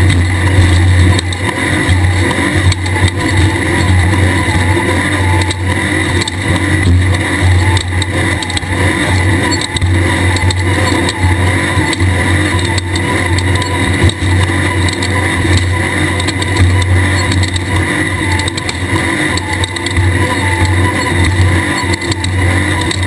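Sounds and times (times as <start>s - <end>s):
race car engine running: 0.0s - 23.0s.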